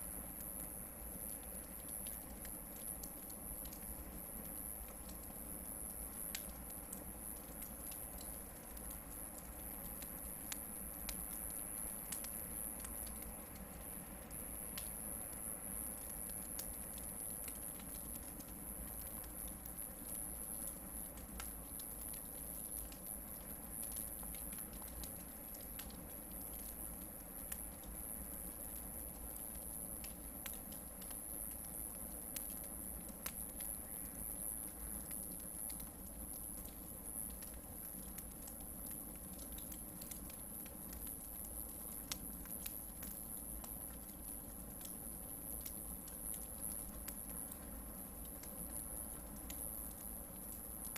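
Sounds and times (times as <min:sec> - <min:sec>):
campfire crackling: 0:00.0 - 0:50.9
faint high-pitched whine: 0:00.0 - 0:50.9.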